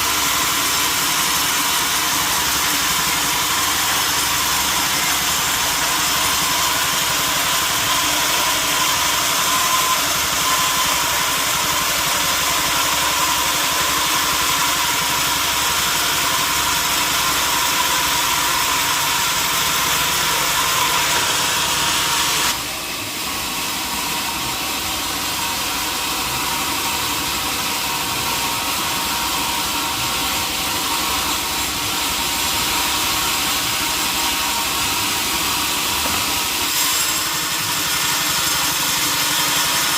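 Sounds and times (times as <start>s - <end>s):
sawmill saw hissing and humming: 0.0s - 39.9s.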